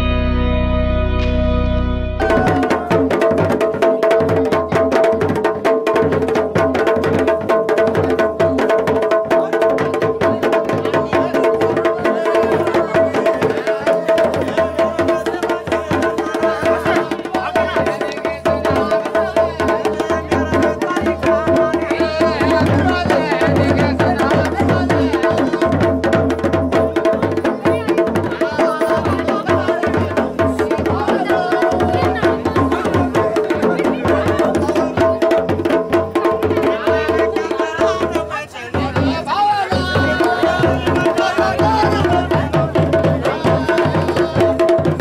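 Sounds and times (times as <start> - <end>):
drums playing fast rhythm: 2.2 - 45.0.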